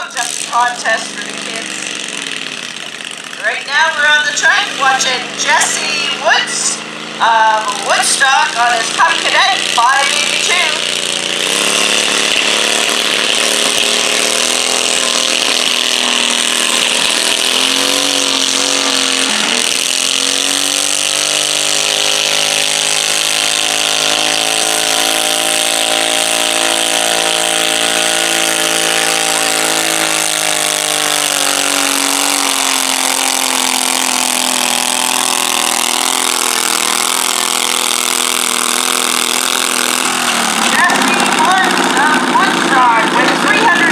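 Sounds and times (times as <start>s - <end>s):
tractor engine under load: 0.0s - 43.9s.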